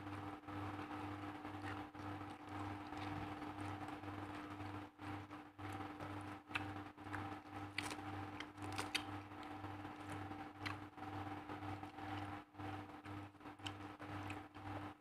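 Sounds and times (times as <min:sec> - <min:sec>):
background hum with low throb: 0:00.0 - 0:15.0.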